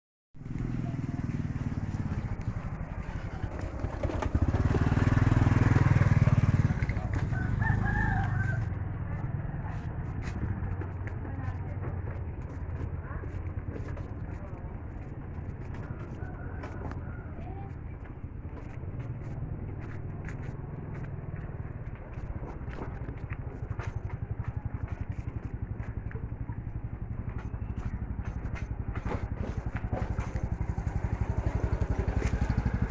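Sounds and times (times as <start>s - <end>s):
small engine chugging: 0.4s - 32.9s.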